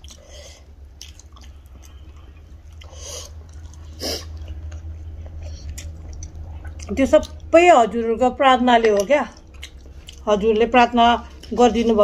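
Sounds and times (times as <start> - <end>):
people chewing food: 0.0 - 7.6, 8.6 - 12.0
low steady hum: 0.0 - 12.0.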